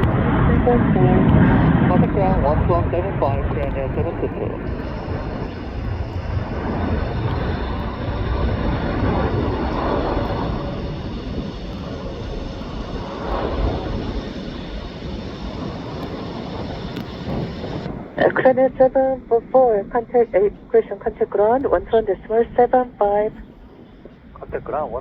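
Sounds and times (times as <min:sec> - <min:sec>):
jet engines passing: 0:00.0 - 0:25.0.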